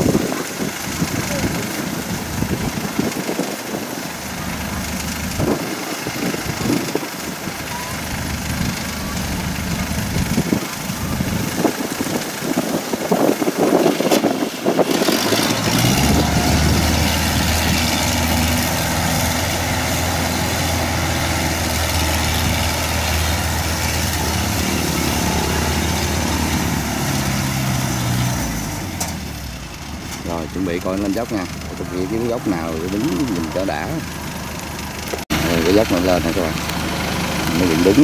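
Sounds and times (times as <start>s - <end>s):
tractor diesel engine idling: 0.0s - 13.9s, 14.6s - 38.0s.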